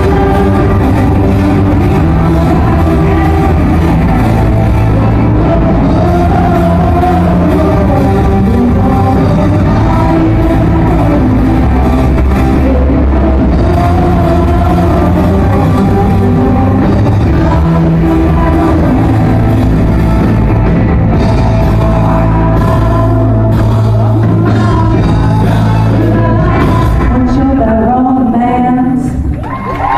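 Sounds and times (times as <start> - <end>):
drum kit: 0.0 - 28.3
electric guitars: 0.0 - 29.9
person singing: 0.0 - 29.9.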